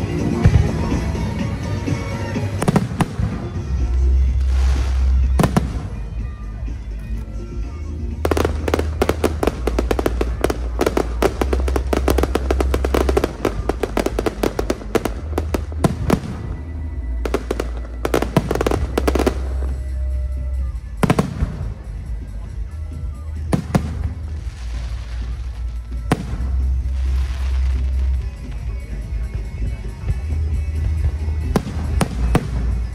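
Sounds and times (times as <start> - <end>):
fireworks bursts: 0.0 - 6.4, 8.1 - 22.7, 23.3 - 29.0, 31.4 - 32.9
fireworks crackling: 0.0 - 32.9
music: 0.0 - 32.9.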